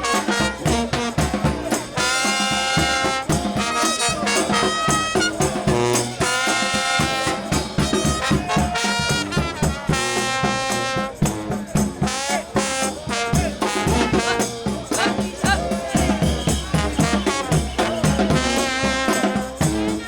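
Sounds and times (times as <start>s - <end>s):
steady drum beat: 0.0s - 20.0s
trumpets and trombones: 0.0s - 20.0s.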